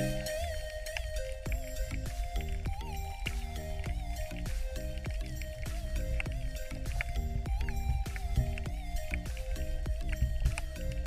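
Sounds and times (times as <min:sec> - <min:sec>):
music with steady beat and synths: 0:00.0 - 0:11.0.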